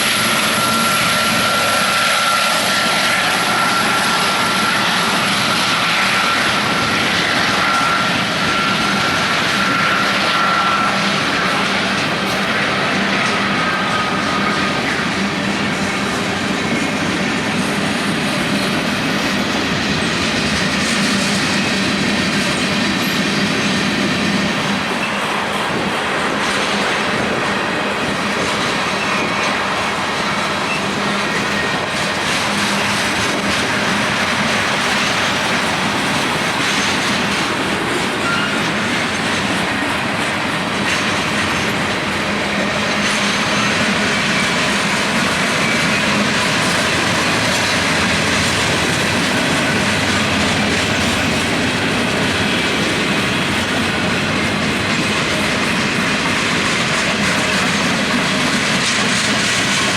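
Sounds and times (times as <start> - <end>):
freight train rolling past: 0.0 - 59.9
wheels clacking over rail joints: 0.0 - 59.9.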